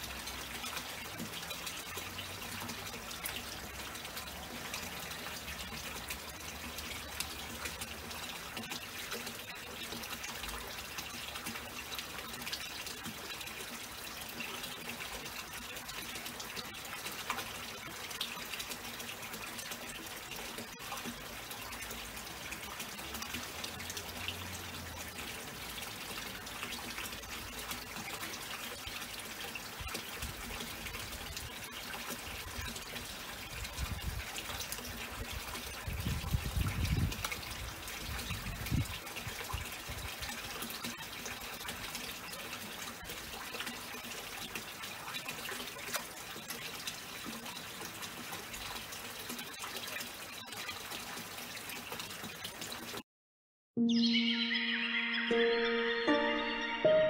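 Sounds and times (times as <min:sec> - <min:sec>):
water trickling into pool: 0:00.0 - 0:53.0.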